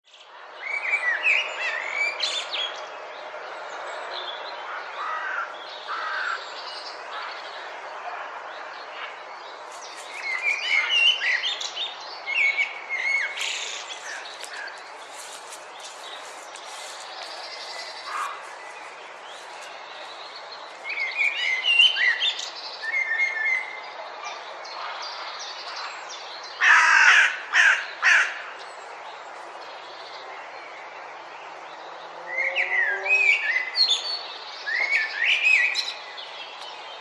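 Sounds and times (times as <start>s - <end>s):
songbirds singing: 0.0s - 37.0s.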